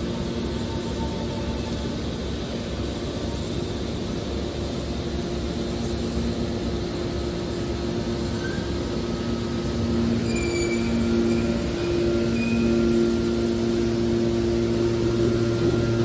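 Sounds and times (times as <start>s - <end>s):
hydraulic motor and pump drone: 0.0s - 16.0s.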